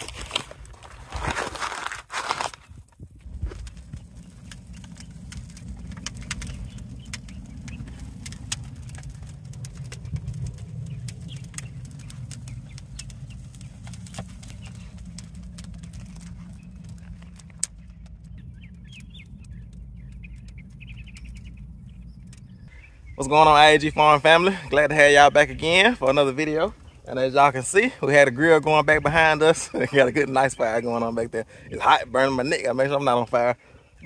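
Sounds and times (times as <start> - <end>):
wood fire crackling: 0.0 - 34.0
low steady rumble: 2.2 - 32.3
birds chirping: 2.6 - 34.0.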